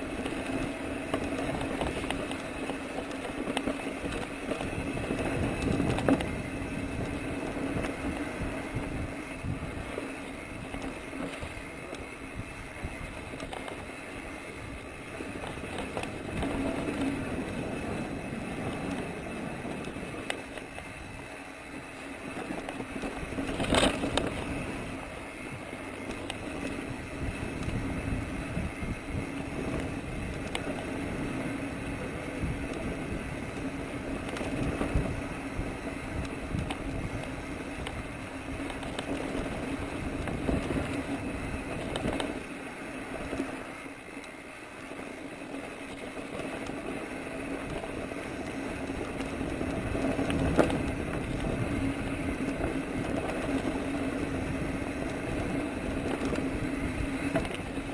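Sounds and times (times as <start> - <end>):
bike rattling over bumps: 0.0 - 57.9
bike tyres rumbling on dirt: 0.0 - 57.9.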